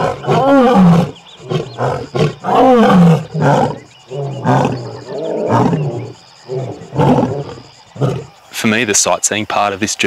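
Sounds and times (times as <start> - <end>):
lions roaring: 0.0 - 8.3
lion grunting calls: 0.0 - 8.4.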